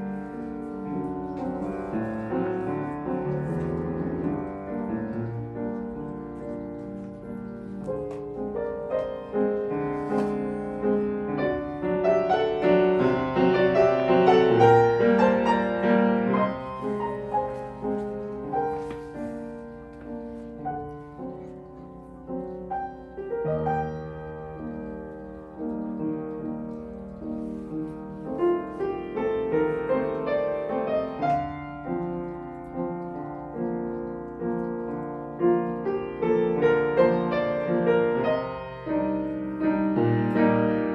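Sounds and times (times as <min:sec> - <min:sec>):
slow solo piano piece: 0:00.0 - 0:40.9.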